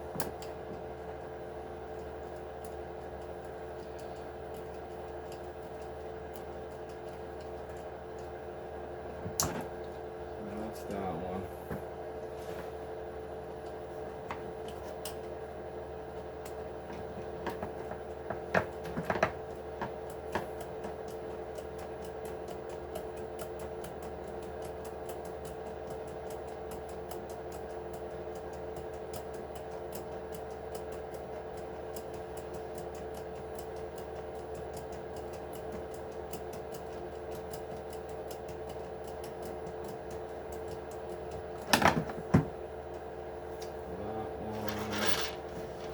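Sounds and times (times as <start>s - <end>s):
steady electrical hum: 0.0s - 45.9s.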